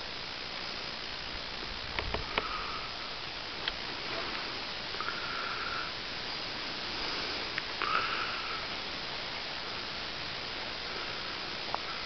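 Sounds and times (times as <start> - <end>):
wind hissing across microphone: 0.0 - 12.0.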